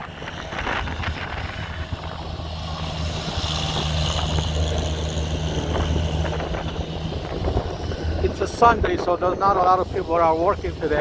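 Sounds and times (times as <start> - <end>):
snowplow engine drone: 0.0 - 11.0.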